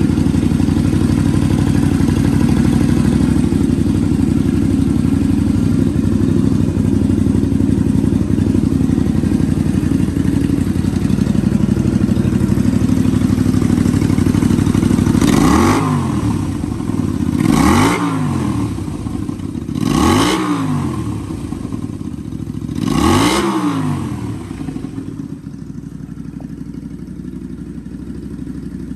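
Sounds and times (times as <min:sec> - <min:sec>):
motorcycle throttle blips: 0:00.0 - 0:27.6
motorcycle engine idling: 0:00.0 - 0:28.9.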